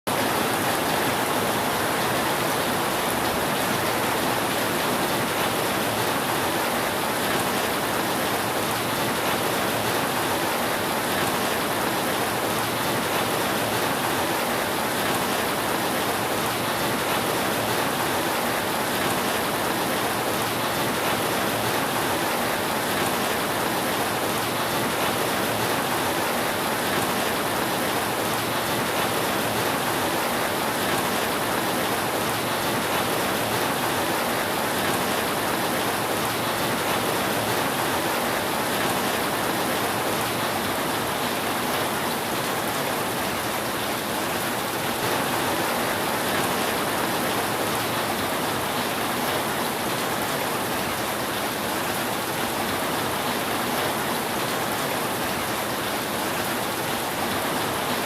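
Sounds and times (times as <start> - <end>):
rain falling on a roof: 0.1 - 58.0.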